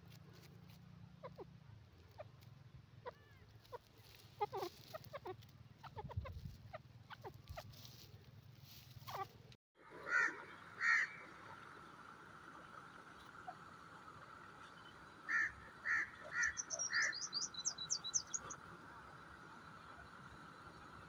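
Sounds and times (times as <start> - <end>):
bird calling: 1.1 - 8.2, 9.0 - 21.0.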